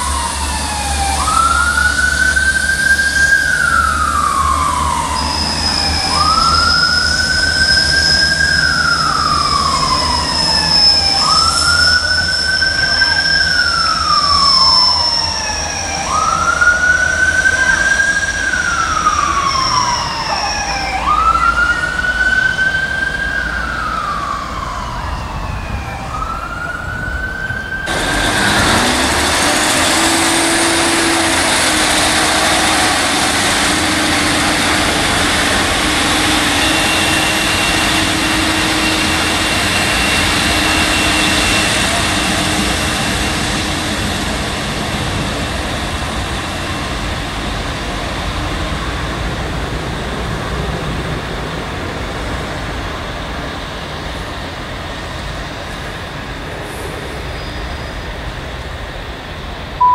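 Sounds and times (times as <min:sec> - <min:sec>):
siren wailing: 0:00.0 - 0:54.1
train diesel engine running: 0:00.0 - 0:59.9.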